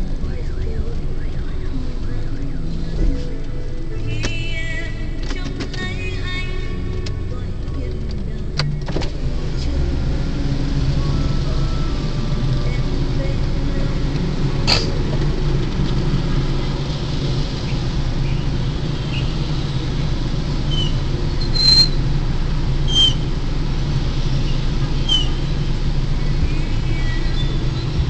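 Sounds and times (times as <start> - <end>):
car engine idling: 0.0 - 28.0
passing motorbike traffic: 0.0 - 28.0.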